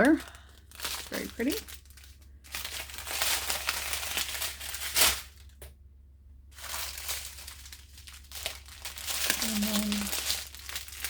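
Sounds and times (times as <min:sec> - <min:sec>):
plastic bags crinkling: 0:00.0 - 0:05.7, 0:06.5 - 0:11.0.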